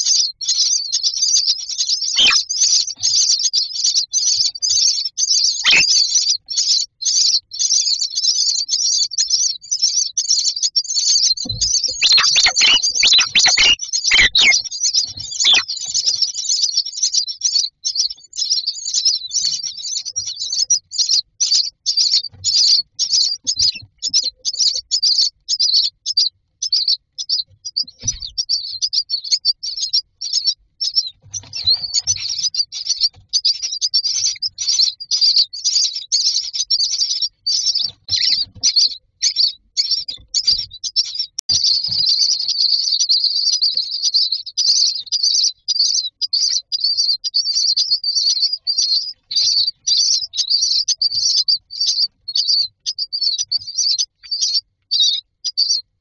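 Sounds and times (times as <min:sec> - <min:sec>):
nestlings shrill begging calls: 0:00.2 - 0:27.4, 0:28.0 - 0:55.8.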